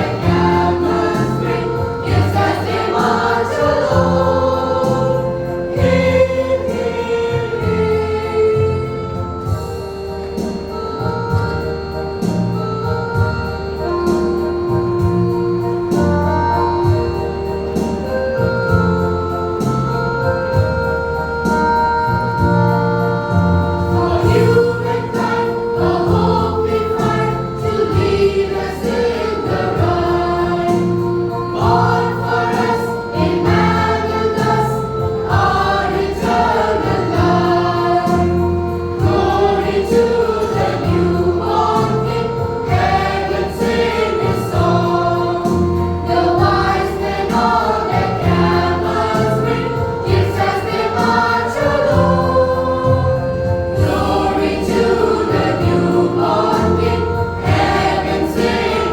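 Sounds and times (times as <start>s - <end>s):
children's choir singing gospel: 0.0s - 20.7s, 22.6s - 58.9s
instrumental accompaniment: 0.0s - 58.9s.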